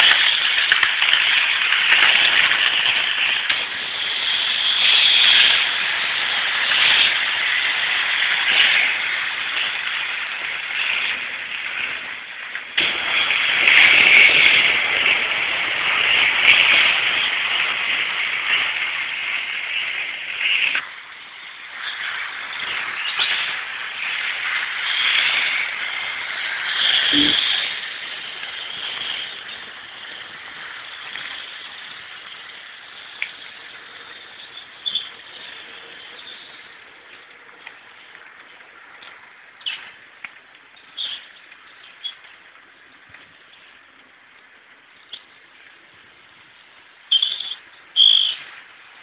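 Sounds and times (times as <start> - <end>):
model train running on track: 0.0 - 49.0.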